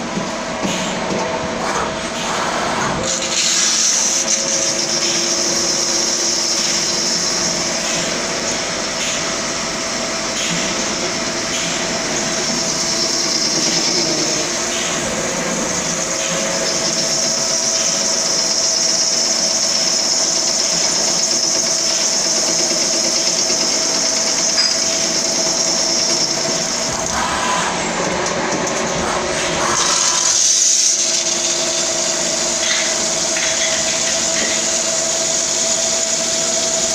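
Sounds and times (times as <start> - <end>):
lathe machine noise: 0.0 - 36.9.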